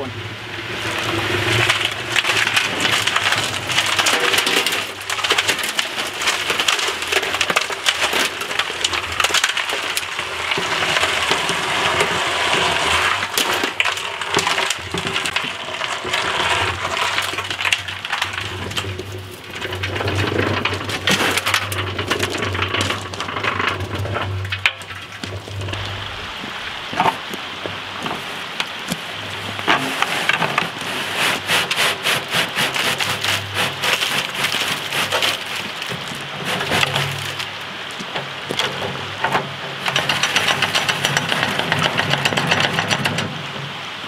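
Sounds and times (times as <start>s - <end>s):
concrete tumbling and pouring: 0.0s - 44.0s.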